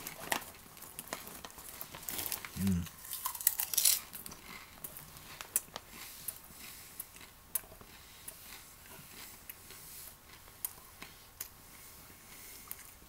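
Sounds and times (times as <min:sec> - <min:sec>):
popcorn chewing crunches: 0:00.0 - 0:13.0.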